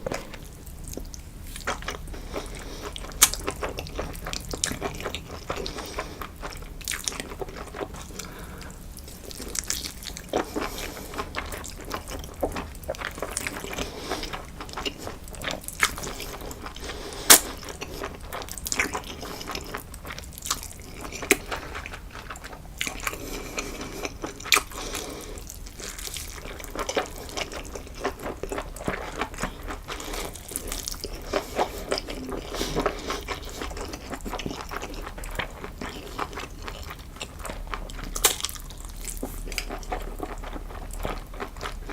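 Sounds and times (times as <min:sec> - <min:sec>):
food crunching: 0:00.0 - 0:41.9
wet chewing: 0:00.0 - 0:41.9.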